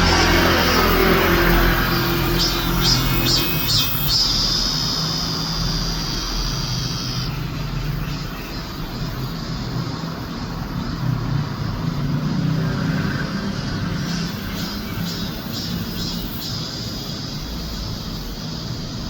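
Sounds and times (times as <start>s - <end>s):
cicada buzzing: 0.0s - 19.0s.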